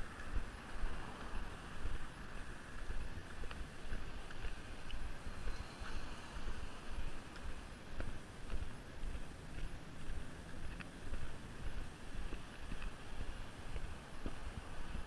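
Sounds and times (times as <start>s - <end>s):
road traffic passing: 0.0s - 15.0s
wind rumbling on microphone: 0.0s - 15.0s.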